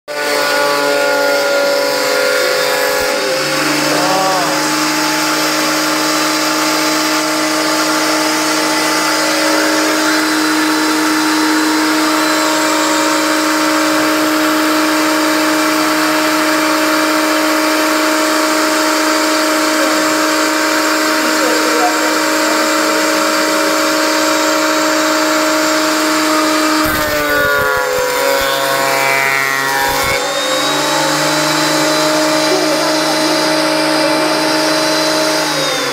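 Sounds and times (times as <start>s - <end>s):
thickness planer whine: 0.1s - 35.9s.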